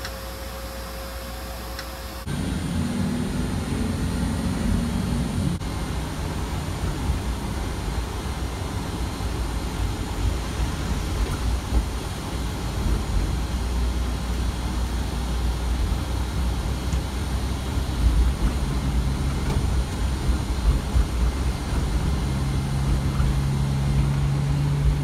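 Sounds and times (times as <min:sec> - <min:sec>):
bus engine and road rumble: 0:01.2 - 0:25.0
low engine hum: 0:02.2 - 0:25.0.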